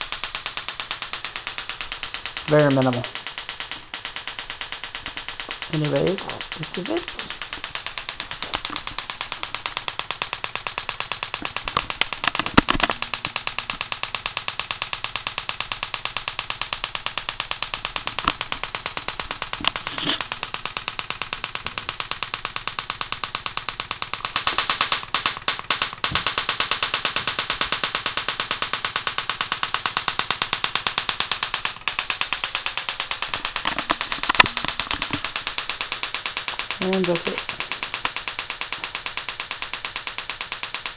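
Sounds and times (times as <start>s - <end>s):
spark gap snapping: 0.0s - 40.9s.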